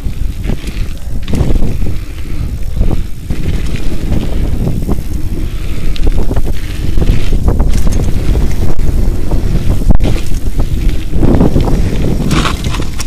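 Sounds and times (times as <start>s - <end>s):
bike knocks and rattles: 0.0s - 13.0s
tyres rumbling on gravel: 0.0s - 13.0s
wind buffeting microphone: 0.0s - 13.0s.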